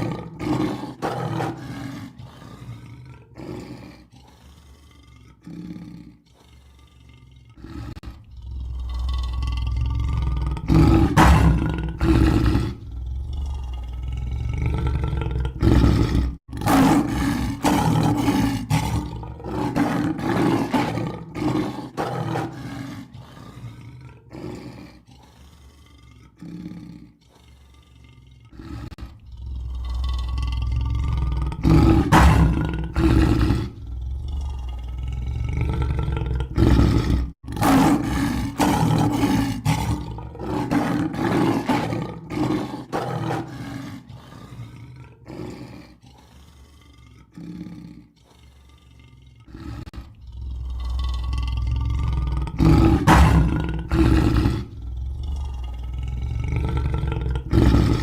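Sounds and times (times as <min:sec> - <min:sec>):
lion grunting: 0:00.0 - 0:58.0
lion roaring: 0:00.0 - 0:58.0.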